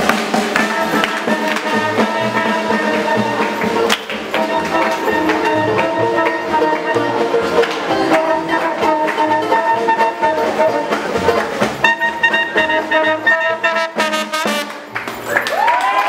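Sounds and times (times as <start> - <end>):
horns holding long notes: 0.0 - 15.0
swing jazz band playing: 0.0 - 15.3.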